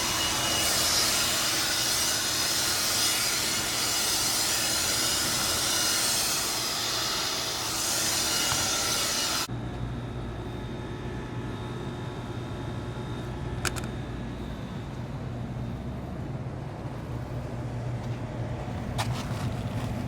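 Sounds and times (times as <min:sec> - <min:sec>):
rooftop unit mechanical hum: 0:00.0 - 0:20.0.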